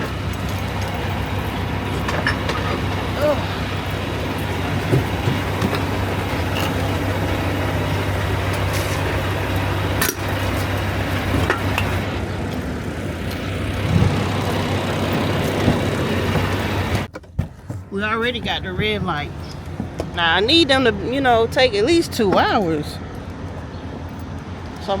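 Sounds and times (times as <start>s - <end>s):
diesel truck engine idling: 0.0s - 17.1s, 17.7s - 25.0s.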